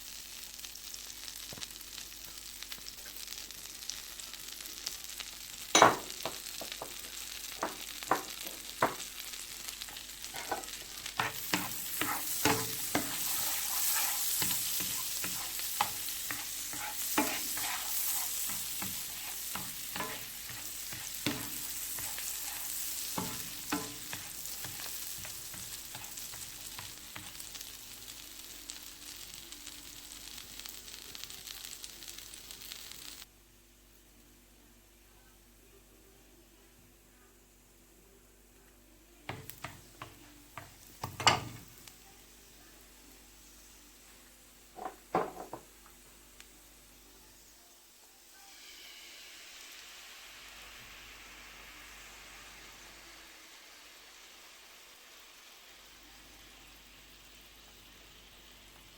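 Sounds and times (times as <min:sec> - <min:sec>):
food sizzling in a pan: 0:00.0 - 0:35.0, 0:36.9 - 0:58.9.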